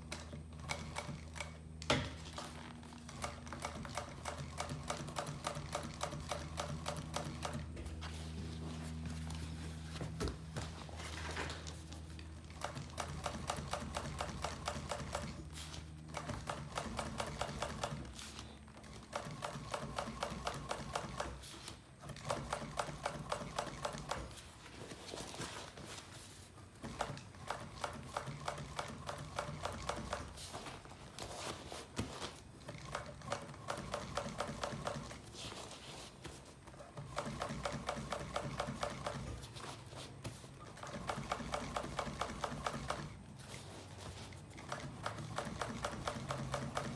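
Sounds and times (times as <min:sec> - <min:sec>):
sewing machine stitching: 0:00.1 - 0:07.8, 0:12.4 - 0:24.4, 0:26.8 - 0:35.6, 0:36.6 - 0:46.9.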